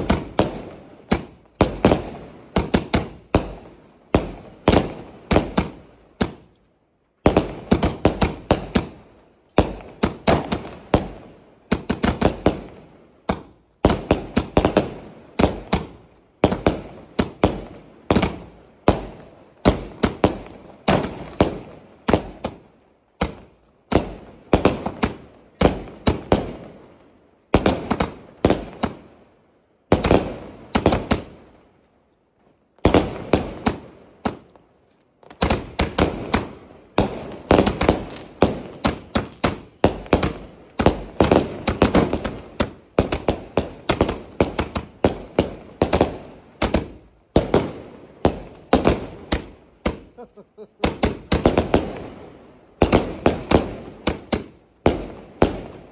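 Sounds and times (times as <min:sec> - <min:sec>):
firework bangs: 0:00.0 - 0:06.5, 0:07.2 - 0:26.8, 0:27.5 - 0:29.0, 0:29.9 - 0:31.4, 0:32.8 - 0:34.5, 0:35.2 - 0:55.9.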